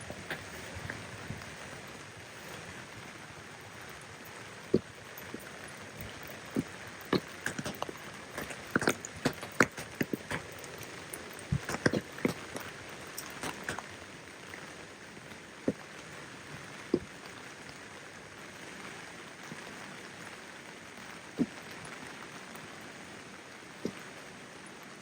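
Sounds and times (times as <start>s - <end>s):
raindrops ticking close by: 0.0s - 25.0s
steady rain hiss: 0.0s - 25.0s.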